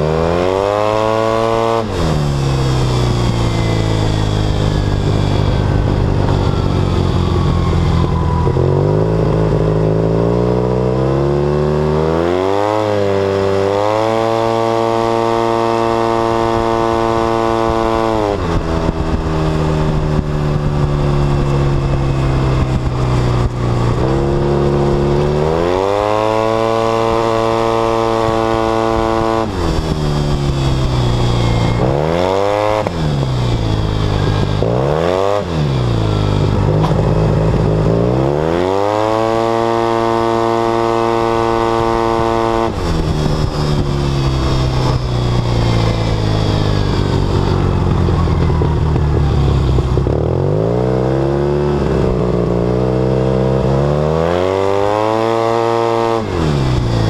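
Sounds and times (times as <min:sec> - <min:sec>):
scooter engine accelerating: 0:00.0 - 0:57.0
wind and road noise: 0:00.0 - 0:57.0.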